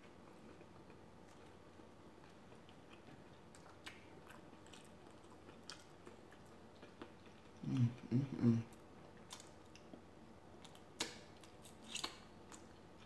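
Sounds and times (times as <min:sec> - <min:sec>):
chewing and mouth sounds: 0:00.0 - 0:13.0.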